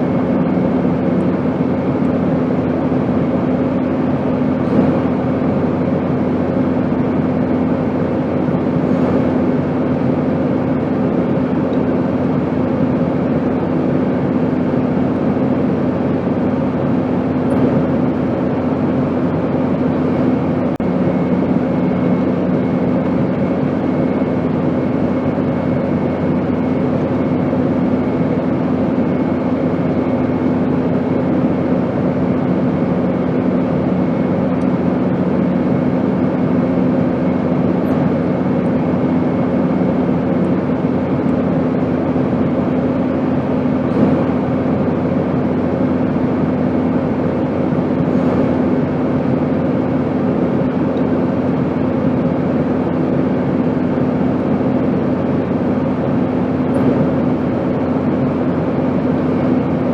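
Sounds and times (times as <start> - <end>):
airplane drone: 0.0 - 59.9.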